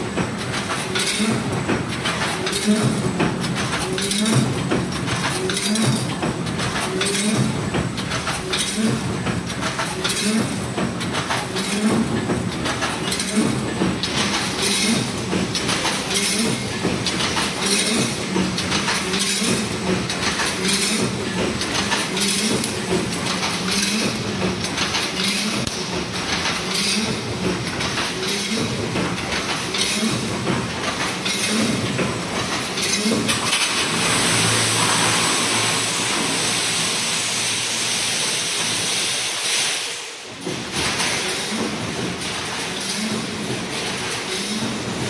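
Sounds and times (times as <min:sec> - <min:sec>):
welding machine clanking: 0:00.0 - 0:45.0.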